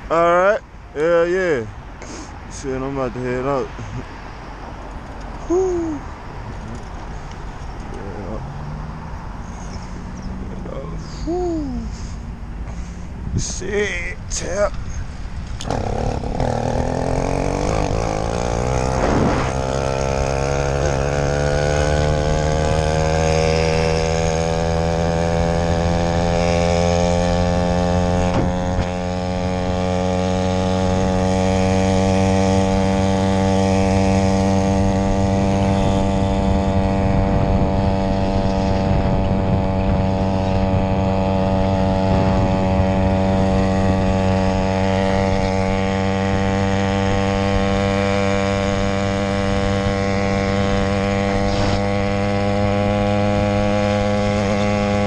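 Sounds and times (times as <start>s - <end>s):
two-stroke engine accelerating: 7.9s - 55.0s.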